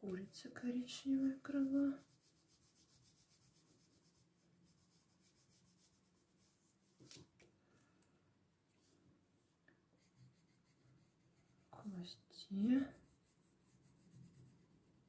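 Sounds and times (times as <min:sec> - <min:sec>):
oil pastel scratching on paper: 0:00.1 - 0:07.2, 0:10.0 - 0:15.0.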